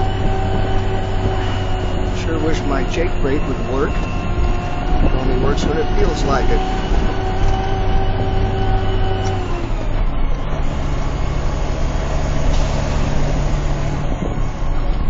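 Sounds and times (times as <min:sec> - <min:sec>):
heavy road noise: 0:00.0 - 0:15.0
truck diesel engine running: 0:00.0 - 0:15.0.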